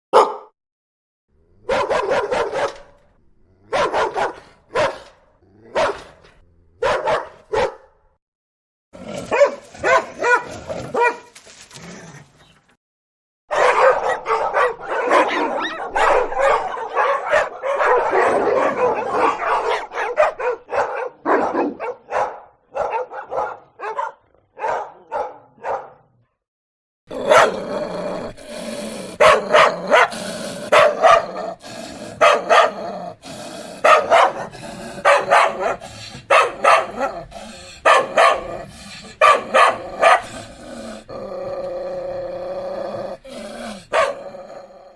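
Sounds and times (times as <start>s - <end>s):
dogs barking: 0.1s - 0.5s, 1.6s - 3.1s, 3.7s - 8.0s, 9.2s - 11.3s, 13.5s - 26.1s, 27.1s - 41.3s, 43.2s - 44.4s.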